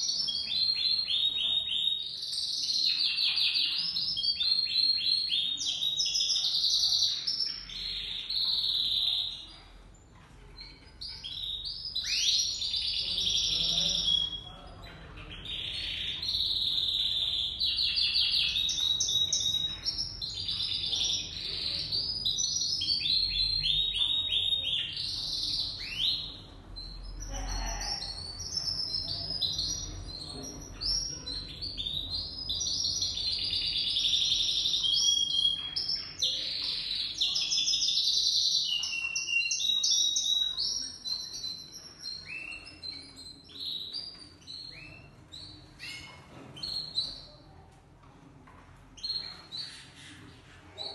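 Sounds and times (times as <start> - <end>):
canaries singing: 0.0 - 50.9.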